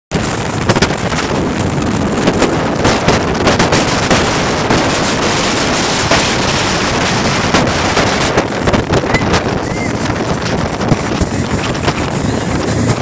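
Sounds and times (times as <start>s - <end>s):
churning wake: 0.1s - 13.0s
wind buffeting microphone: 0.1s - 13.0s
boat engines rushing: 0.2s - 13.0s.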